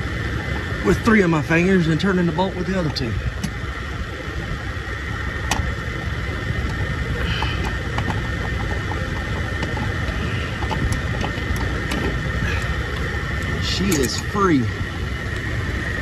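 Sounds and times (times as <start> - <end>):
low rumble with high whine: 0.0 - 16.0.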